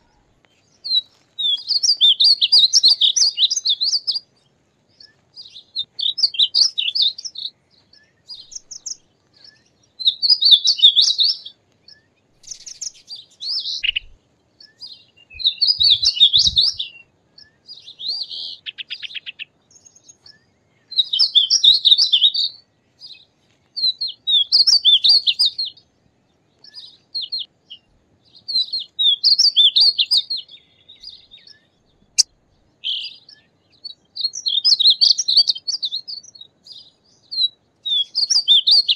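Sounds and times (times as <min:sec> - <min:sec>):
bird singing warbled phrase: 0:00.0 - 0:04.3, 0:05.0 - 0:23.2, 0:26.6 - 0:38.9.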